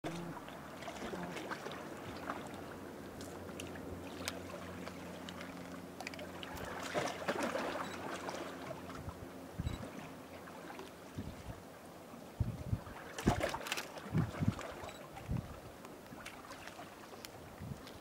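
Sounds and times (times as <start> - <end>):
distant motorboat engine hum: 0.0 - 18.0.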